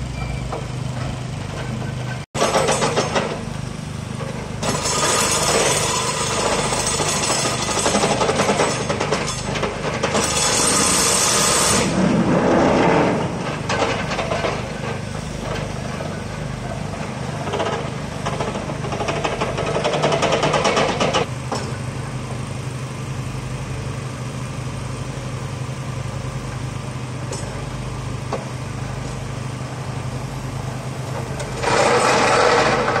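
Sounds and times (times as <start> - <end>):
diesel engines humming: 0.0 - 33.0
pulsing piling rig machine noise: 0.0 - 33.0.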